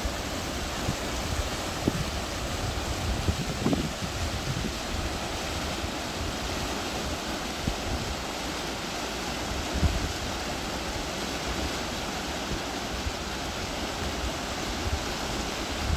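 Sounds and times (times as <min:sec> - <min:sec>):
flooded creek rushing: 0:00.0 - 0:15.9.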